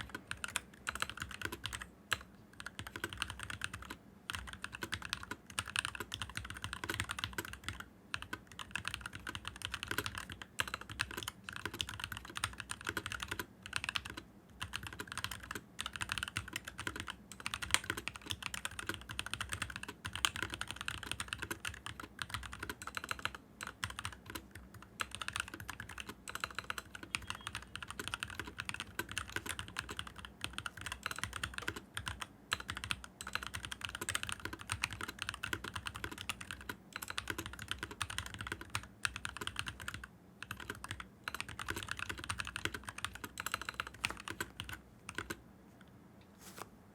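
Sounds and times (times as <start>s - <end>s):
mechanical keyboard typing: 0.0s - 45.4s.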